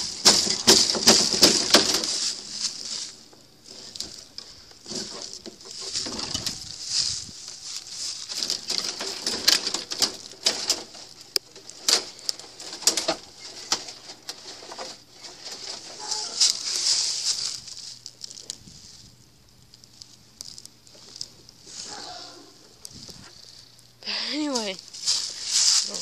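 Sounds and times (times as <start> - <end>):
dry sticks rustling and cracking: 0.0 - 26.0.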